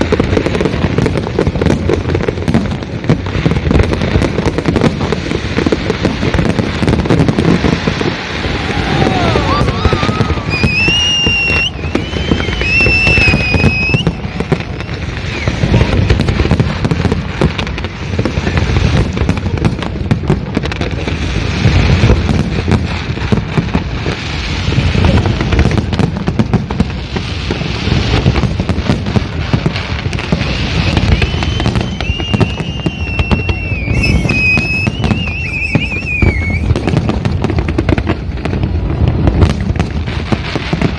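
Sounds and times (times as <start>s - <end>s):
fireworks bangs and crackles: 0.0s - 40.9s
fireworks whistling: 0.0s - 40.9s.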